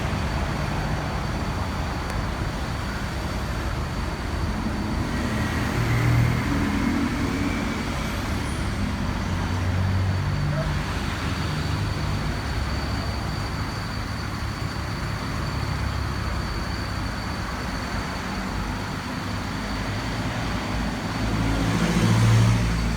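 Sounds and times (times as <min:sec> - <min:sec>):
road traffic noise: 0:00.0 - 0:22.9
vehicle engine running: 0:00.0 - 0:22.9.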